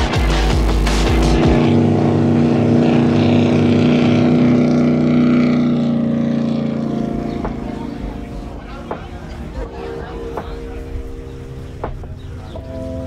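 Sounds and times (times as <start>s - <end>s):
powerboat engine droning: 0.0s - 13.0s.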